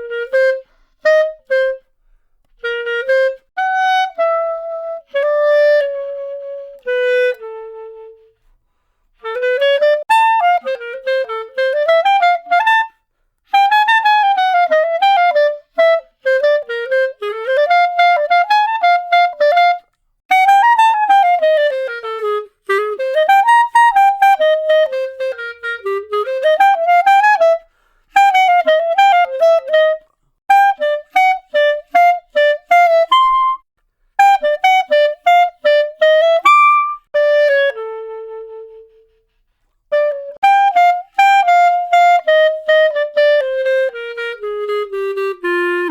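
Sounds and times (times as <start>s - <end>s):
solo clarinet melody: 0.0s - 45.9s.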